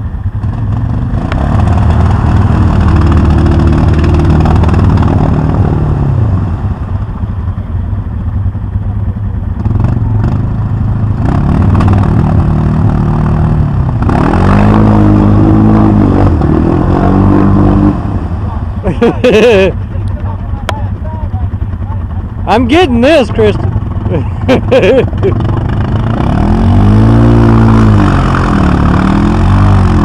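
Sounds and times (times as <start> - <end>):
atv engine revving: 0.0 - 30.0.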